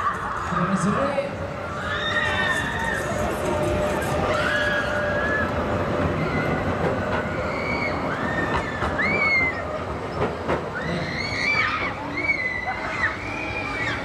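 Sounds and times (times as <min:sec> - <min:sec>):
crowd voices shouting and shrieking: 0:00.0 - 0:14.0
tram rolling on rails: 0:00.0 - 0:14.0.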